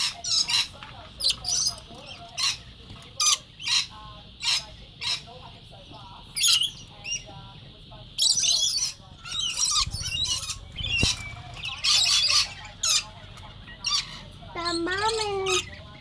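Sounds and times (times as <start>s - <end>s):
lorikeets screeching: 0.0s - 5.4s, 6.4s - 7.3s, 8.2s - 16.0s.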